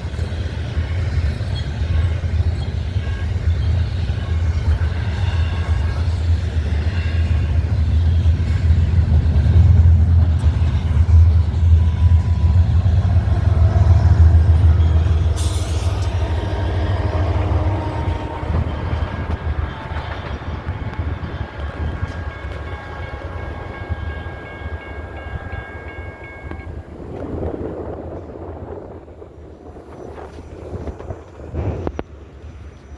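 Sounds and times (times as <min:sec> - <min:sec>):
freight train rumbling past: 0:00.0 - 0:32.9.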